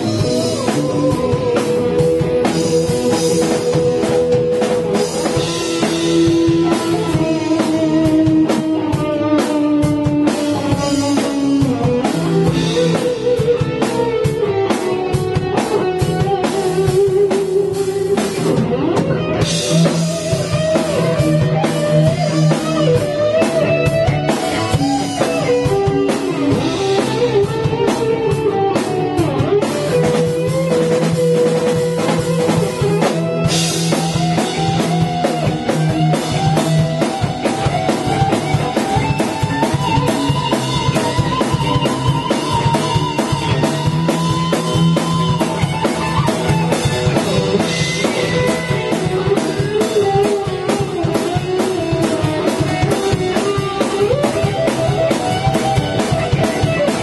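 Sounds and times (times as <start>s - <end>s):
drum kit beat: 0.0s - 57.0s
electric guitar lead melody: 0.0s - 57.0s
rhythm guitar: 0.0s - 57.0s.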